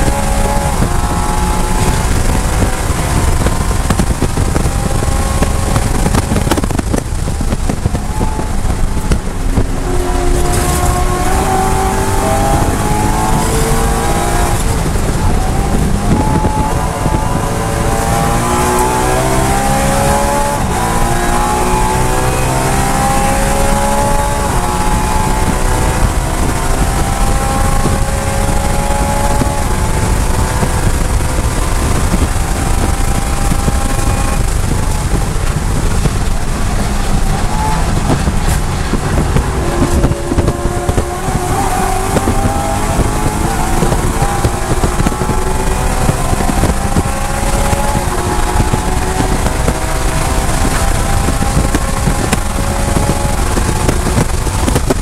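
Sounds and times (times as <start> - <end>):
car engine revving at full throttle: 0.0 - 55.0.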